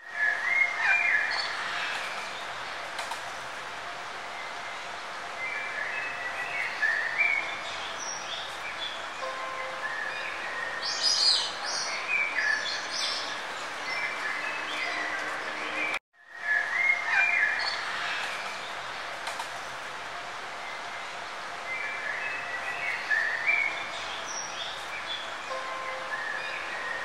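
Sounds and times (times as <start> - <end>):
birds chirping and trilling: 0.0 - 2.9, 4.3 - 19.1, 20.6 - 27.0
steady background hiss: 0.0 - 27.0.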